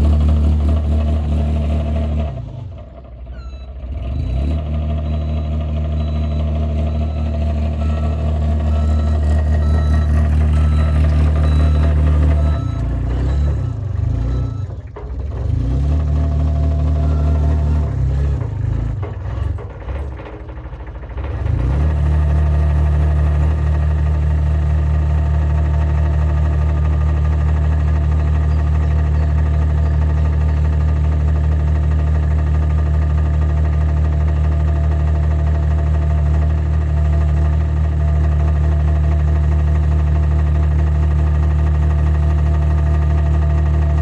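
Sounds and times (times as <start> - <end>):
dumper engine running: 0.0 - 44.0.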